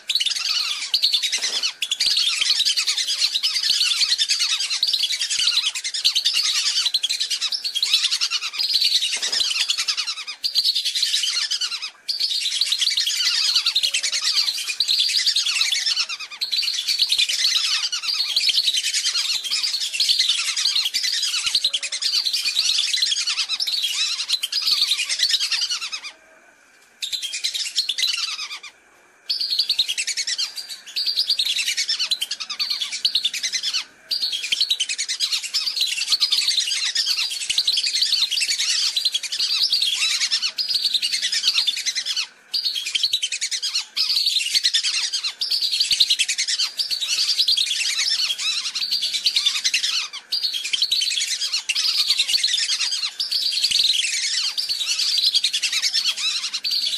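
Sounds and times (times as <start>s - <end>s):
whistling ducks calling: 0.0s - 26.2s, 27.0s - 56.9s.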